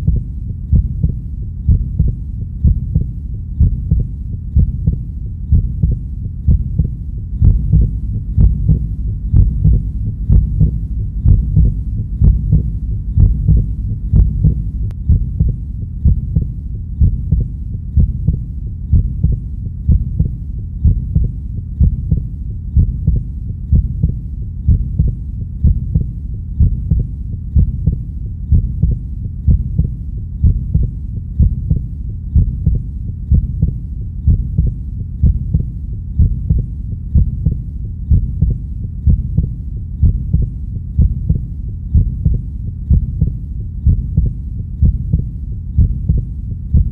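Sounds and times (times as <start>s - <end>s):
heartbeat pulse: 0.0s - 46.9s
low hum: 0.0s - 46.9s.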